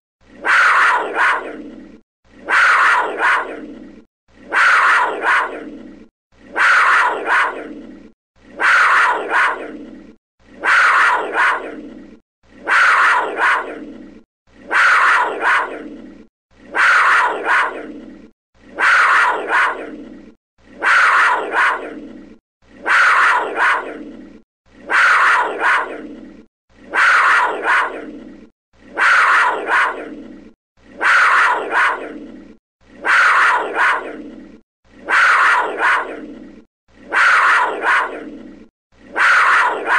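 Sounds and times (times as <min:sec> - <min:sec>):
panther growling: 0:00.3 - 0:39.9.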